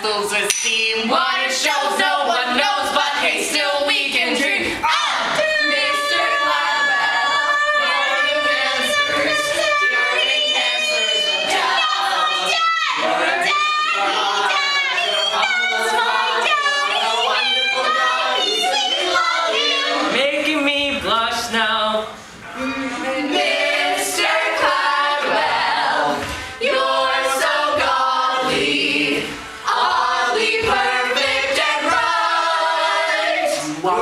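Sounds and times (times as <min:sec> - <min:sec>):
group singing show tune: 0:00.0 - 0:34.0.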